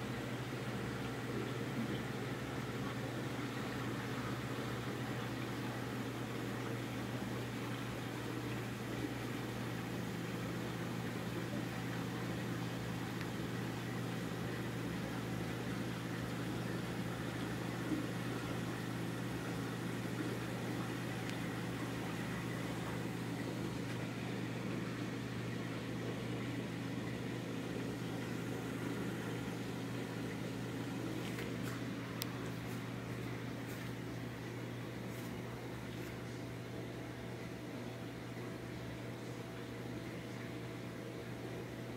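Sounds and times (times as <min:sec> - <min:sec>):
aquarium pump hum: 0:00.0 - 0:41.9.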